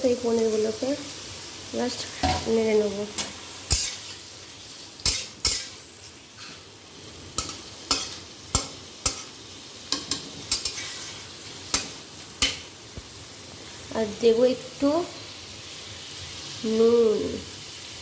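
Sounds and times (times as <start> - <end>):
frying sizzle: 0.0 - 18.0.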